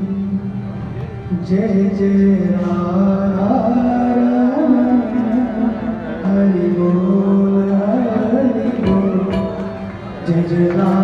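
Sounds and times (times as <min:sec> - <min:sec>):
instrumental accompaniment: 0:00.0 - 0:11.0
person singing long held notes: 0:01.3 - 0:11.0.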